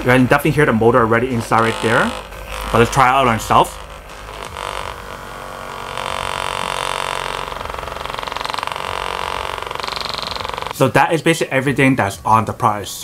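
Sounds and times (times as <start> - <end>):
massage gun buzzing: 0.0 - 10.8.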